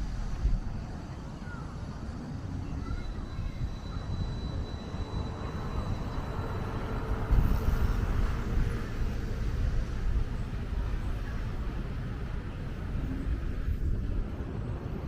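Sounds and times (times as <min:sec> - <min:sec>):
passing traffic rumble: 0:00.0 - 0:15.0.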